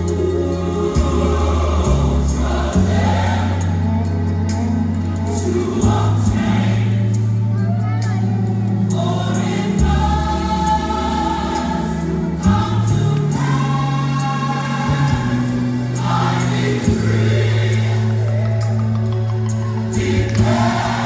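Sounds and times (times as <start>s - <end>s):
choir singing: 0.0s - 7.4s, 8.6s - 21.0s.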